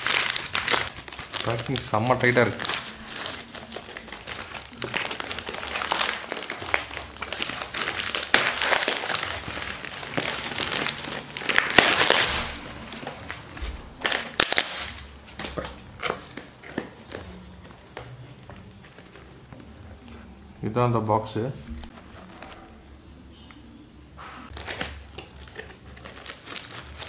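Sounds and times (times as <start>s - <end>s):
packaging crinkling and tearing: 0.0s - 19.6s, 24.5s - 27.0s.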